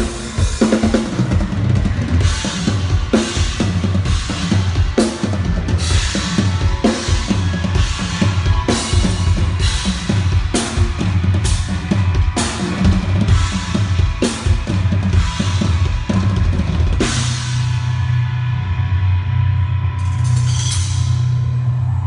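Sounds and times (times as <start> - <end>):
steady low bass: 1.1 - 22.0.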